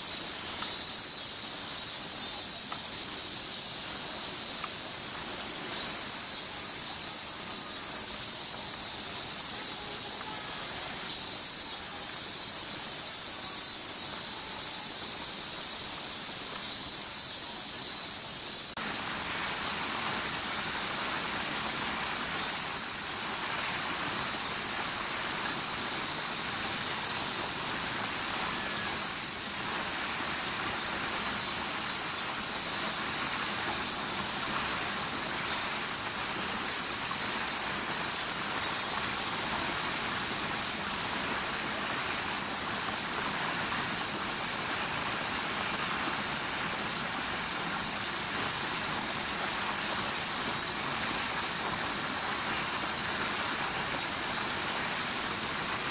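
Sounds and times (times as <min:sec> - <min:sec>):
cicadas chorus: 0:00.0 - 0:55.9
pulsed cicada call: 0:00.0 - 0:55.9.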